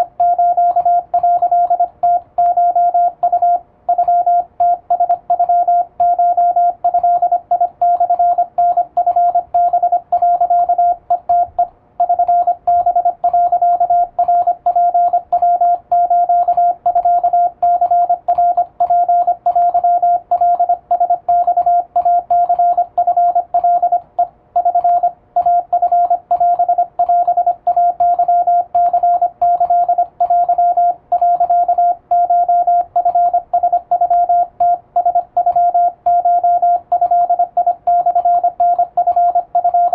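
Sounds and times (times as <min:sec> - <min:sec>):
morse code sidetone beeping: 0:00.0 - 0:39.9.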